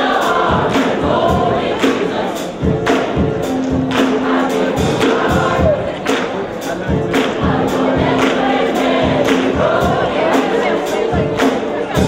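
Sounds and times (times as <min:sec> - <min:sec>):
choir singing: 0:00.0 - 0:12.0
percussion steady beat: 0:00.0 - 0:12.0.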